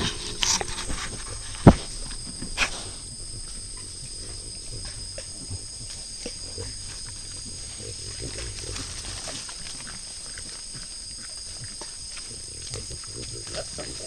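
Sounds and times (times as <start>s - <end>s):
peccaries grunting: 0.0s - 14.0s
chewing clicks and crunches: 2.6s - 14.0s.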